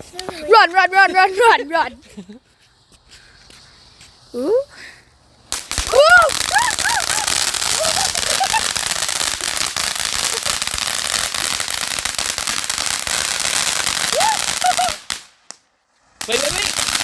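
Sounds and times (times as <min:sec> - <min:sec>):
firecrackers crackling: 0:02.9 - 0:17.0.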